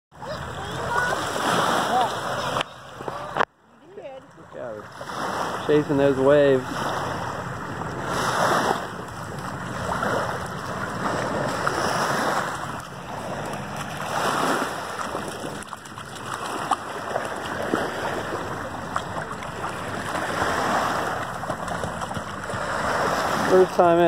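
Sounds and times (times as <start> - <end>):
small waves washing on shore: 0.2 - 24.0.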